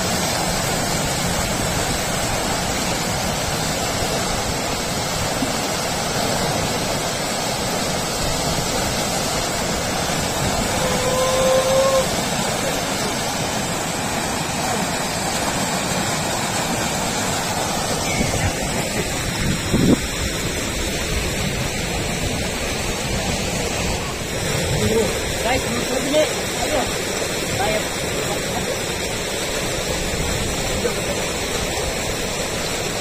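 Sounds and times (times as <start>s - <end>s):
river rapids rushing over boulders: 0.0s - 33.0s.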